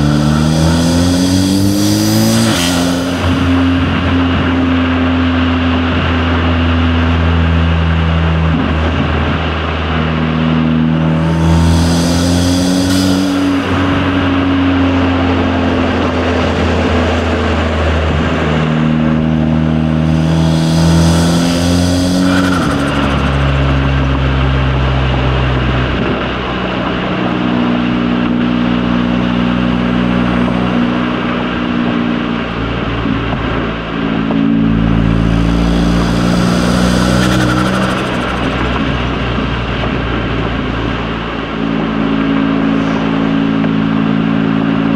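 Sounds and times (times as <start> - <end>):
turbocharged car engine driving: 0.0 - 44.9.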